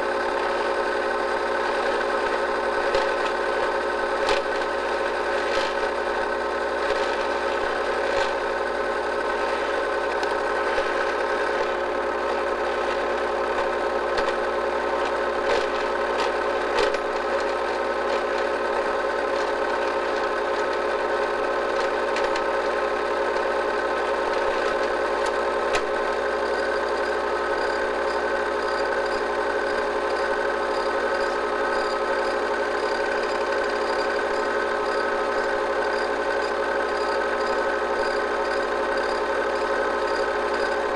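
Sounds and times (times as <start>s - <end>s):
movie projector whirring: 0.0s - 40.9s.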